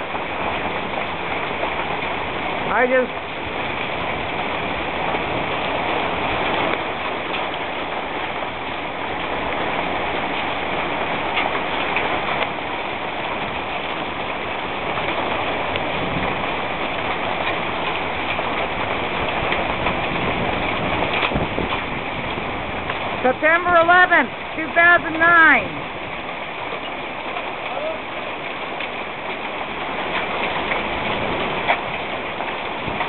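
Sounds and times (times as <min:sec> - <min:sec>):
hail and heavy rain pelting: 0:00.0 - 0:33.0.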